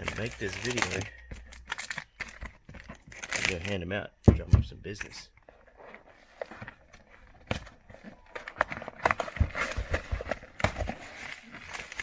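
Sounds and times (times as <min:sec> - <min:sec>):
package rustling: 0:00.0 - 0:04.0, 0:05.6 - 0:12.0.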